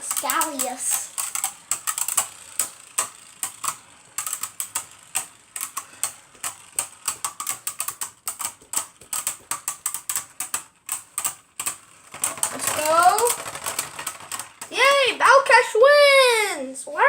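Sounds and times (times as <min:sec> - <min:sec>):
rapid sharp clicks of collisions: 0:00.0 - 0:14.8
spinning tops clashing: 0:00.0 - 0:15.0.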